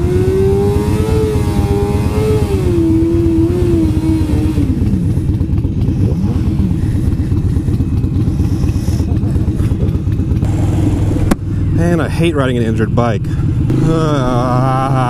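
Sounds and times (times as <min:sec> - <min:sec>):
motorcycle engine running ragged: 0:00.0 - 0:15.0
pitched whine: 0:00.0 - 0:15.0.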